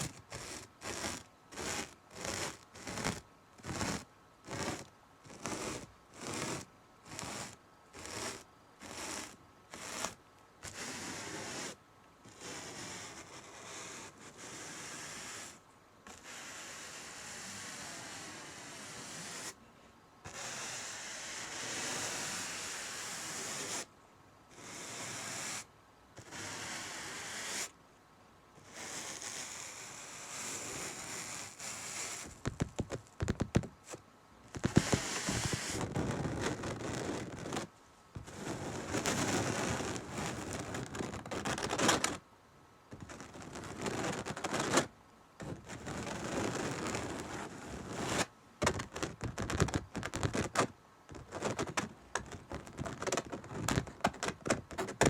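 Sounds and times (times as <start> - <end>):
scratchy strokes on canvas: 0.0 - 19.6, 20.2 - 23.9, 24.5 - 27.8, 28.6 - 42.2, 42.9 - 55.0.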